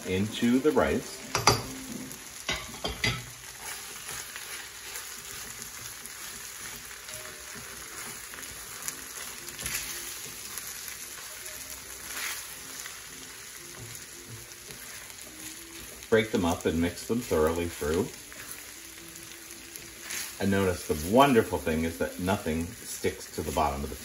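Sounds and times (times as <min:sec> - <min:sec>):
rice sizzling in a skillet: 0:00.0 - 0:24.0
wooden spatula scraping: 0:03.4 - 0:24.0.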